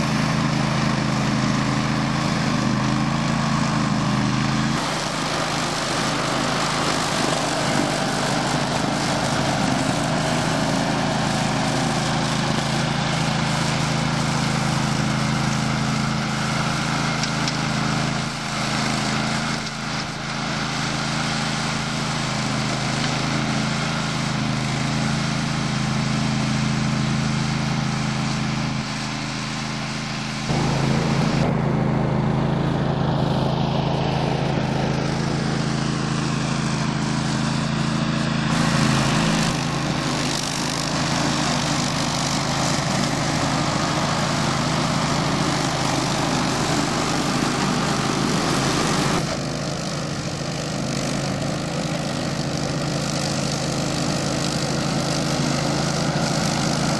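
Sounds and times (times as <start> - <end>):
cutting deck whirring: 0.0 - 56.9
ride-on mower engine hum: 0.0 - 56.9.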